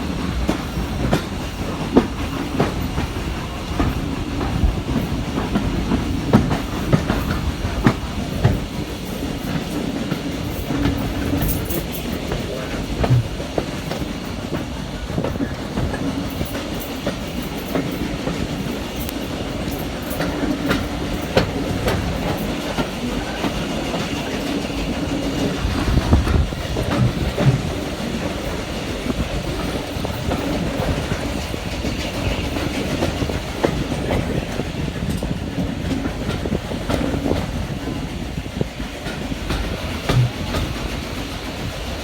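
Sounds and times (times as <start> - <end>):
wheels clicking over rail joints: 0.0 - 41.7
train wheels rumbling: 0.0 - 42.0.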